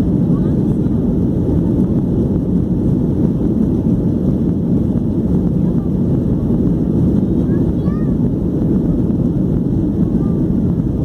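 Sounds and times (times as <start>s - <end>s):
jet engines in airplane cabin: 0.0s - 11.0s.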